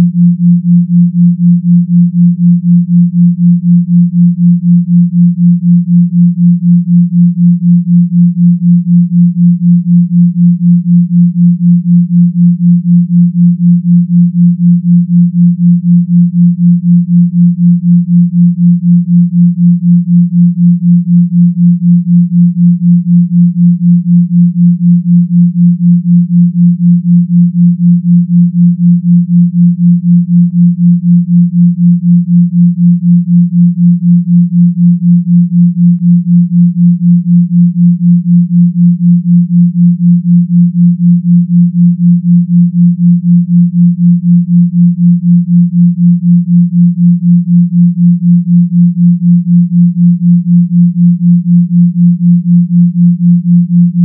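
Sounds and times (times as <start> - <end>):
pulsing low sine hum: 0.0 - 54.0.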